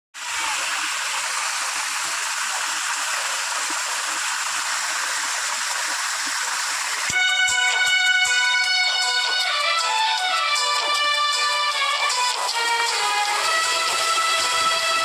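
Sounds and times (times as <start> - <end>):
waterfall rushing: 0.2 - 15.0.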